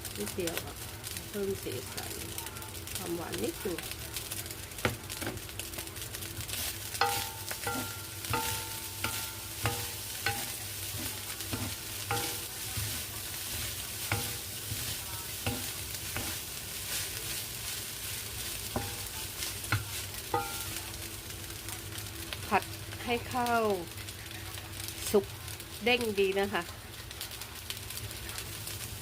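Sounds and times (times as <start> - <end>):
rice sizzling in a hot pan: 0.0 - 29.0.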